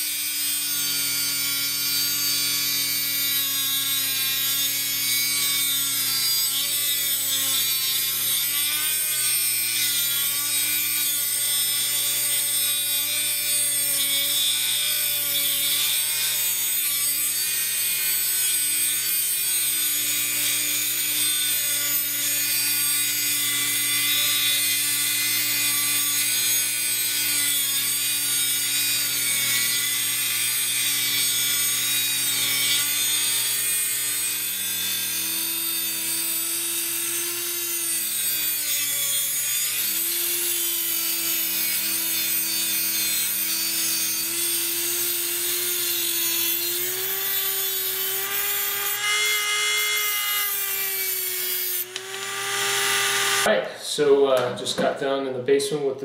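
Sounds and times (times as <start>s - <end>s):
cutting wheel scraping metal: 0.0s - 53.5s
rotary tool whining: 0.0s - 53.5s.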